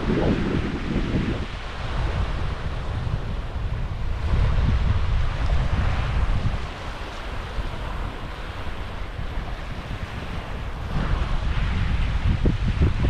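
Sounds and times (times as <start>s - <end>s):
waves washing on beach: 0.0s - 13.0s
wind buffeting microphone: 0.0s - 13.0s.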